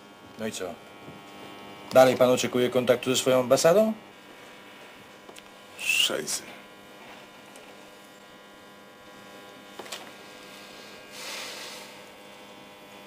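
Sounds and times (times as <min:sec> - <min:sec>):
electrical hum and buzz: 0:00.0 - 0:13.0.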